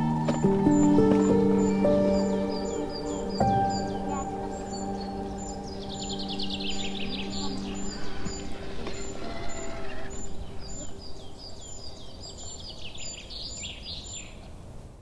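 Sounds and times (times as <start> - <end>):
woodland birds chirping: 0.0 - 14.6
low outdoor noise: 0.0 - 15.0.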